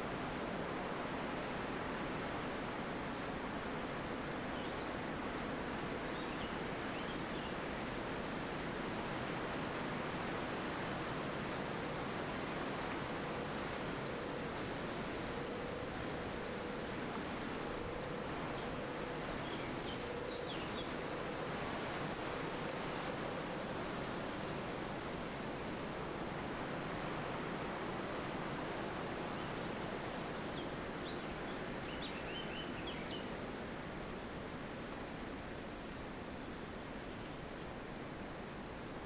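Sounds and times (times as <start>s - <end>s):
wind through forest trees: 0.0s - 39.0s.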